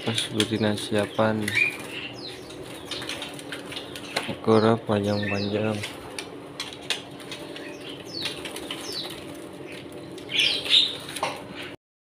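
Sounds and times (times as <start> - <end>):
birds fluttering wings in cage: 0.0 - 4.5, 5.2 - 11.8.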